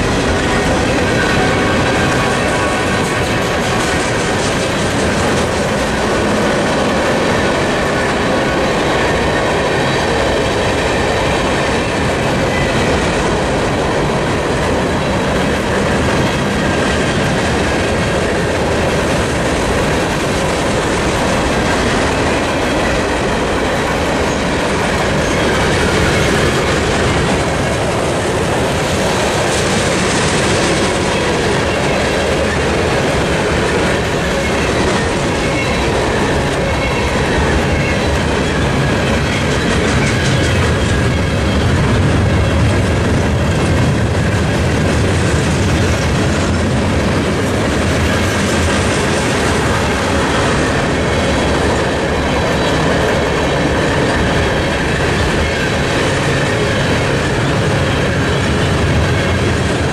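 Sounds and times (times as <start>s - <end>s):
freight train wheels rolling: 0.0s - 59.9s.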